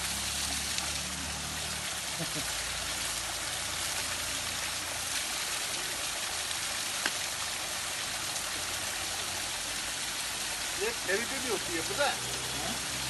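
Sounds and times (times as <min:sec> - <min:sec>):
waterfall splashing onto rock: 0:00.0 - 0:13.0.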